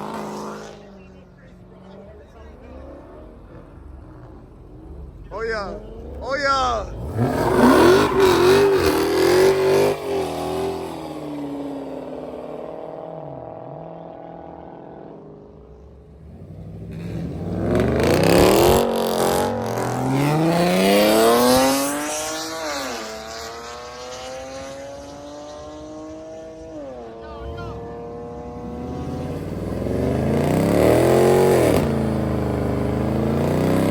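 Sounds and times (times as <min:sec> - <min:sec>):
car engines accelerating hard: 0:00.0 - 0:33.9.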